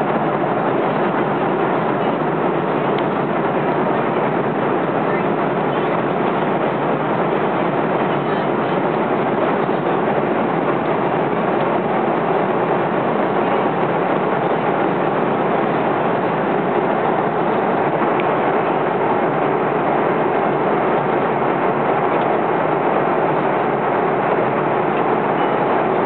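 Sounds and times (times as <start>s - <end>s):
airliner cabin jet engine rush: 0.0s - 26.0s.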